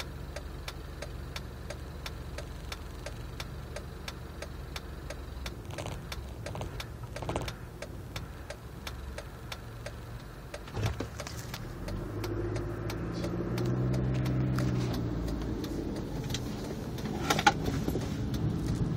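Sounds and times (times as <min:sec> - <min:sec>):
engine rough idle ticking: 0:00.0 - 0:18.9
engine revving: 0:02.0 - 0:18.9.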